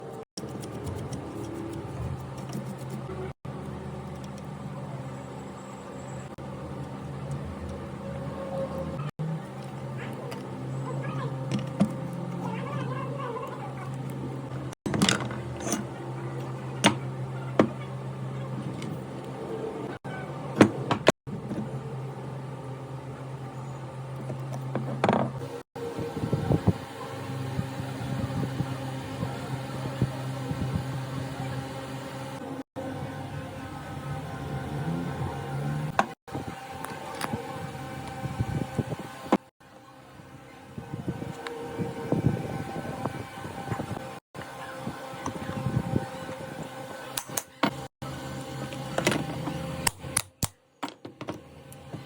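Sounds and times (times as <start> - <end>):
fan humming: 0.0 - 50.4, 51.1 - 52.0.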